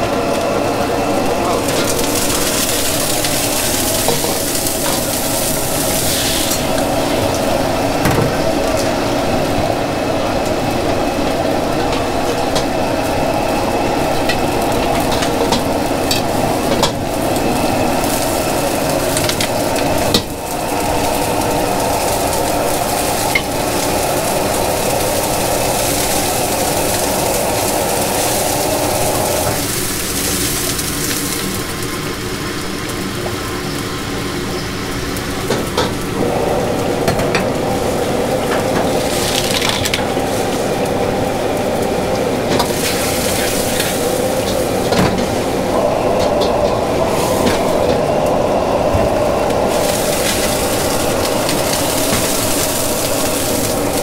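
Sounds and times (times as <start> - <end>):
food sizzling in a pan: 1.0 - 48.0, 49.3 - 54.0.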